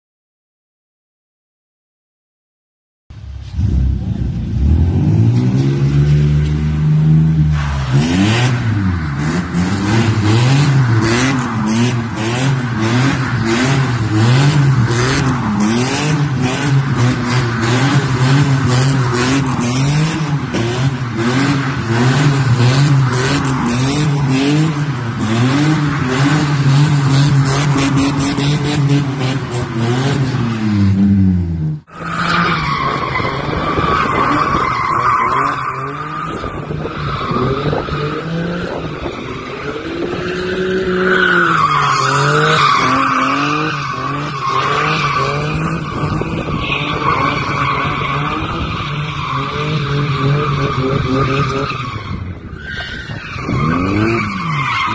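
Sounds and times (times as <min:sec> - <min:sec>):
car engine revving: 0:03.4 - 0:52.2.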